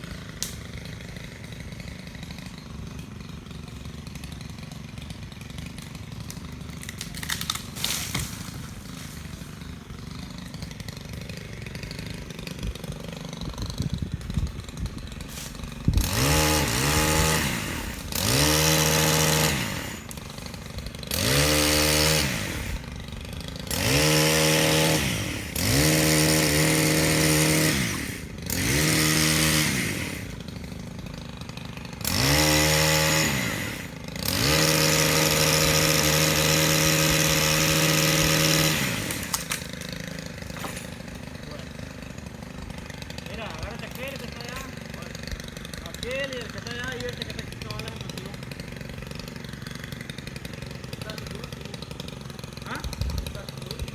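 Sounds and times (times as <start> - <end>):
chainsaw engine idling and revving: 0.0 - 53.9.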